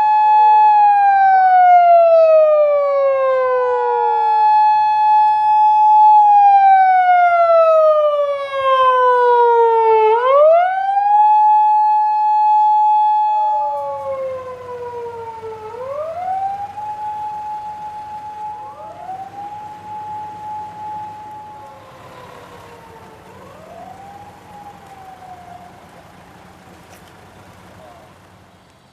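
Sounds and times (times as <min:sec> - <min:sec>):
emergency sirens wailing: 0:00.0 - 0:28.9
low engine and road rumble: 0:00.0 - 0:28.9.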